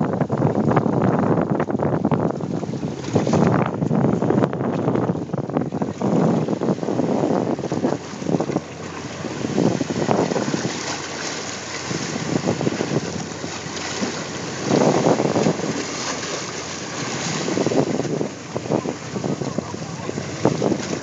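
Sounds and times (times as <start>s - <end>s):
waves washing against hull: 0.0s - 21.0s
wind buffeting microphone: 0.0s - 21.0s.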